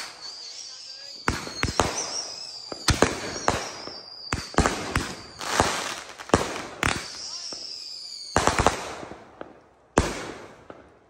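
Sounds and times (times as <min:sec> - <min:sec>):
fireworks bangs: 0:00.0 - 0:10.9
fireworks crackling: 0:00.0 - 0:11.0.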